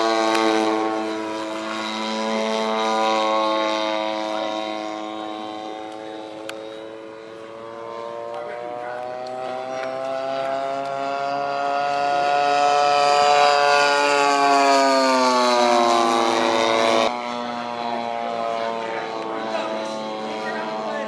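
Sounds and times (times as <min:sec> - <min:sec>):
model airplane engine droning: 0:00.0 - 0:21.0.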